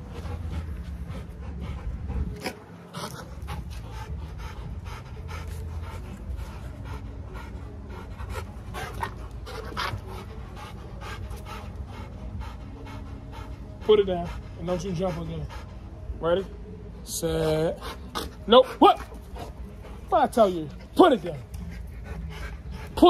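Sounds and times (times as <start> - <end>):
dogs panting: 0.0 - 23.0.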